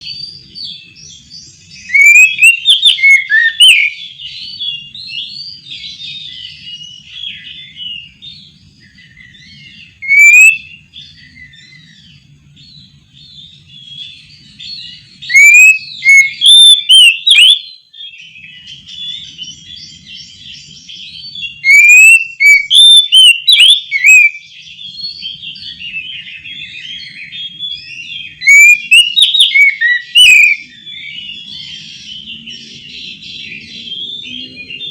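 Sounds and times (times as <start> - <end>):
bird singing whistled phrases: 0.0 - 34.9
bird twittering: 0.0 - 34.9.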